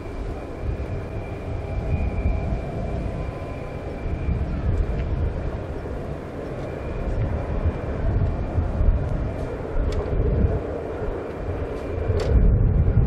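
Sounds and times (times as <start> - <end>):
faint high whine: 0.0 - 12.2
jet engines deep rumble: 0.0 - 13.0.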